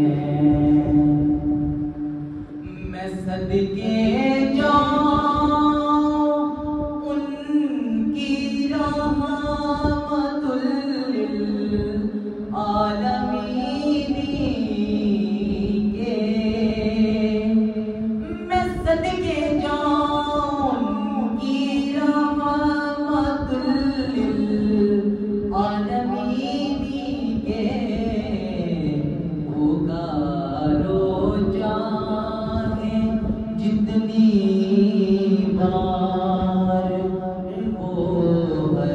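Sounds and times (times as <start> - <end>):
young man singing unaccompanied: 0.0 - 38.9.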